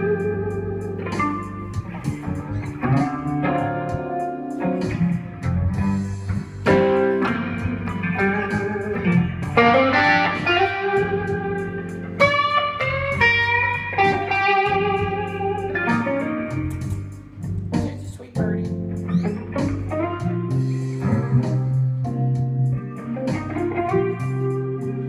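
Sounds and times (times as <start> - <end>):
electric guitar blues lead: 0.0 - 25.0.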